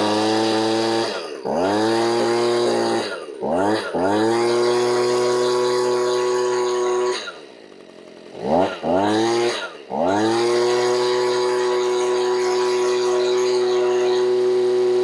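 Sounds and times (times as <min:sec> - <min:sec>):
leaf blower engine running: 0:00.0 - 0:15.0.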